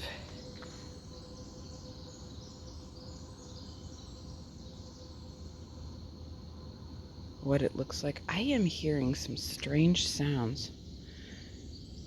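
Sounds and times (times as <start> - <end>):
faint steady hum: 0.0 - 12.0
insects chirping: 0.0 - 12.0.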